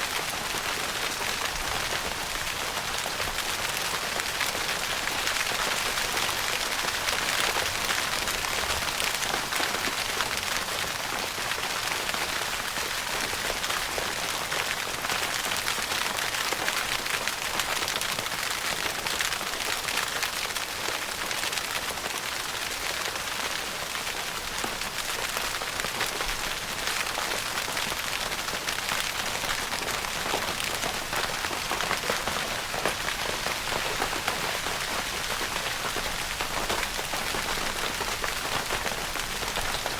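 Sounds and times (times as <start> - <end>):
rain pattering on tent fabric: 0.0 - 39.9.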